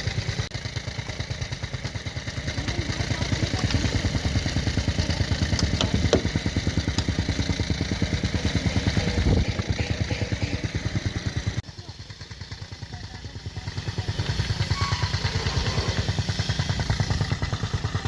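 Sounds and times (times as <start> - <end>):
heavy machine engine pulsing: 0.0 - 18.0.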